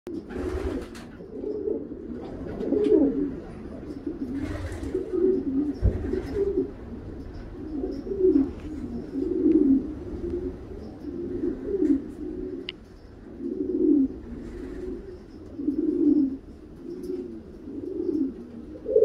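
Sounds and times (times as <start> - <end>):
pigeon cooing: 0.1 - 19.0.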